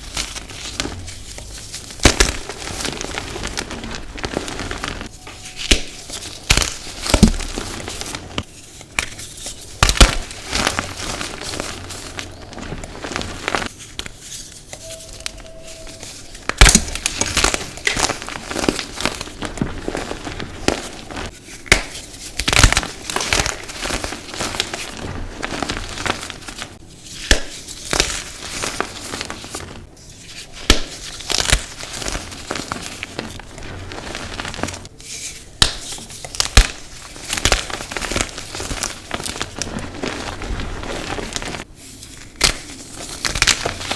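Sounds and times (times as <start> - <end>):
chalk being crushed by hand: 0.0 - 43.9.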